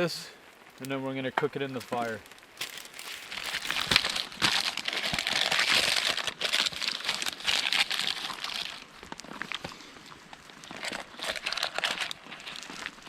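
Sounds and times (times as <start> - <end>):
lining sheet crinkling: 1.5 - 13.0.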